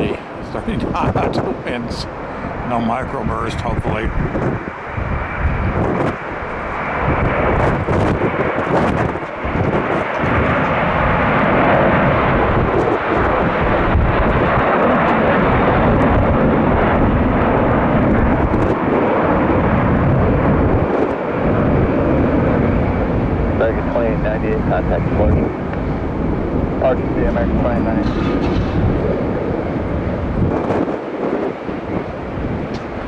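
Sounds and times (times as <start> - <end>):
jet engines running loud: 0.0 - 33.0
wind buffeting microphone: 0.0 - 33.0.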